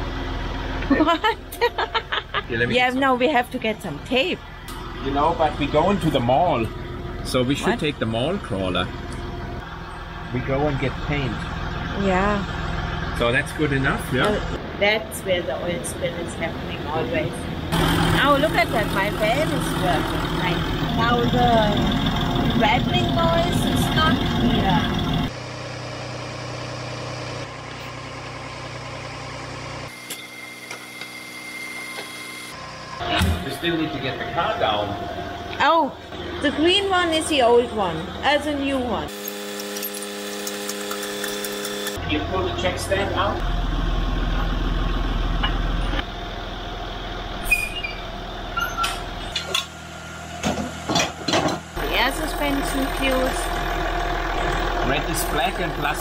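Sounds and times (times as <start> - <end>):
diesel engine idling: 0.0 - 30.0, 32.5 - 39.1, 41.9 - 56.0.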